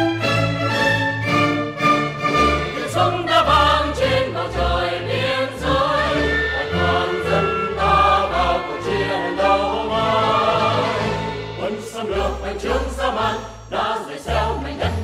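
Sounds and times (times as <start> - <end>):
mixed choir singing: 2.3 - 15.0.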